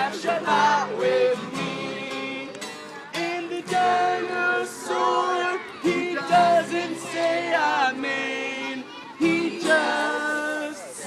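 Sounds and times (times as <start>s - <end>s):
choir singing a children's song: 0.0s - 11.0s.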